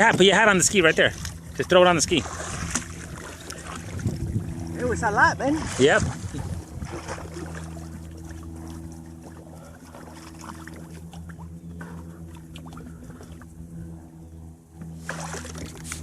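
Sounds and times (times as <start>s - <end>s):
water sounds: 0.0s - 14.1s, 14.7s - 16.0s
jet ski engine idling: 0.0s - 16.0s.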